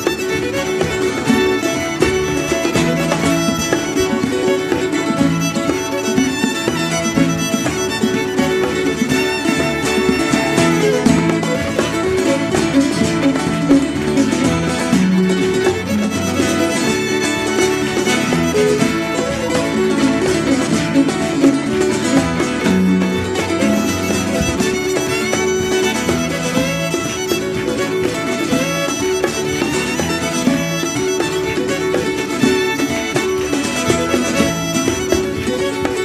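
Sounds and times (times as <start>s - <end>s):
fiddle melody: 0.0s - 36.0s
guitar accompaniment: 0.0s - 36.0s.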